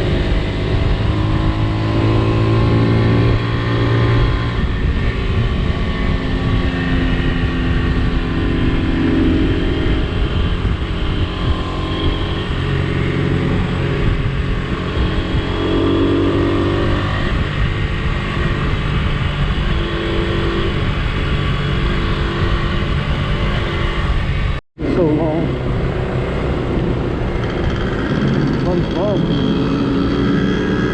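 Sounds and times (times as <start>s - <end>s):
motorcycle engine running: 0.0s - 30.9s
wind rumble on microphone: 0.0s - 30.9s.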